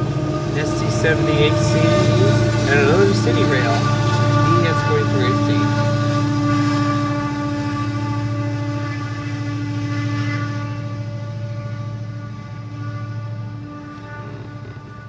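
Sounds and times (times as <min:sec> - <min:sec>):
diesel locomotives droning: 0:00.0 - 0:15.0.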